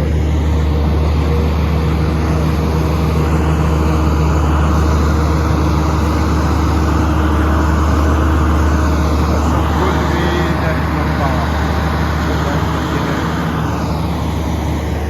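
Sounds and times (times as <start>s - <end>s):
machine low hum and rumble: 0.0s - 15.0s.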